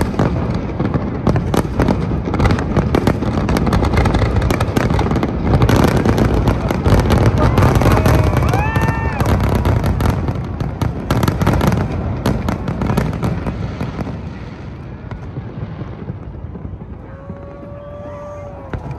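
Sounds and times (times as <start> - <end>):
fireworks bangs and crackling: 0.0 - 18.9.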